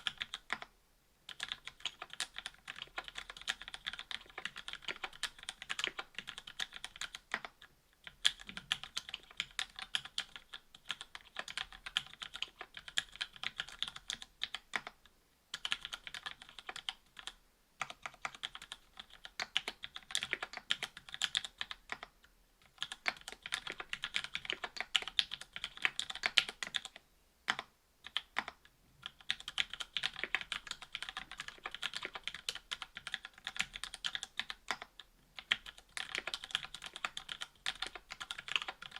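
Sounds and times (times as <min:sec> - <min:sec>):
typing on mechanical keyboard: 0:00.0 - 0:00.7, 0:01.3 - 0:38.9.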